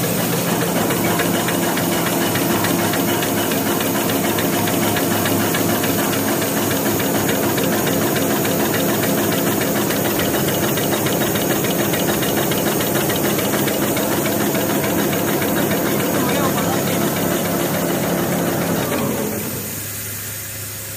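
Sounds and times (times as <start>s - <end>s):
paper folding machine clattering: 0.0s - 19.6s.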